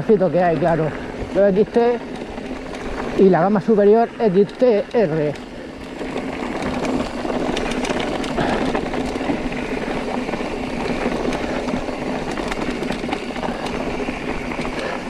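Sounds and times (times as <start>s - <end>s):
bike tyres crunching on stones: 0.0s - 15.0s
chain and frame rattling: 0.3s - 15.0s.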